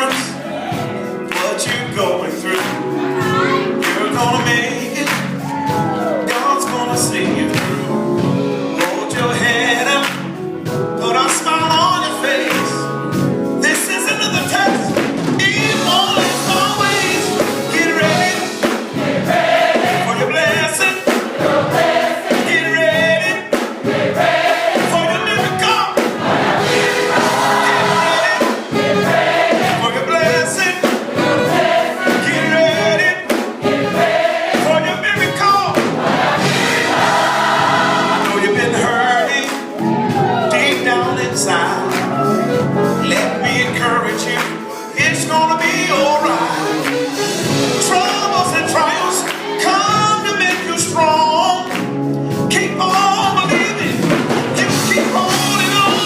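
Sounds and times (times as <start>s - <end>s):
gospel choir singing: 0.0s - 51.9s, 52.5s - 56.0s
musical accompaniment: 0.0s - 56.0s.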